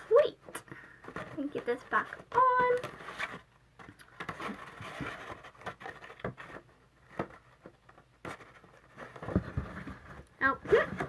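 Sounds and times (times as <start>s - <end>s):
paper scraping and rustling: 1.0s - 11.0s.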